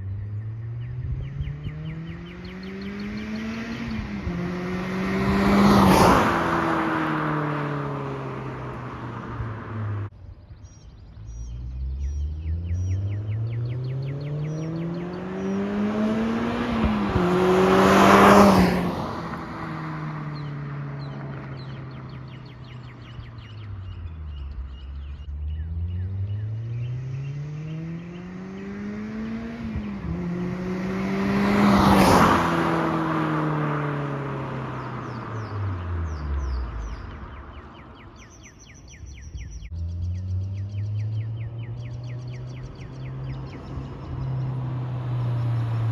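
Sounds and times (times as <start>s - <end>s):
car accelerating past: 0.0s - 10.1s, 11.5s - 38.3s, 39.7s - 45.9s
birds chirping: 0.0s - 45.9s.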